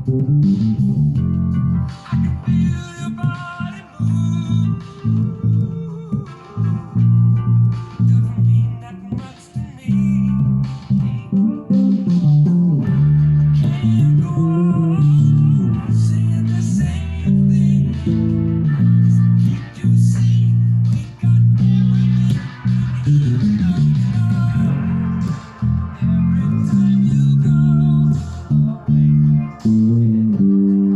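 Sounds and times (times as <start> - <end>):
plucked bass guitar music: 0.0 - 30.9.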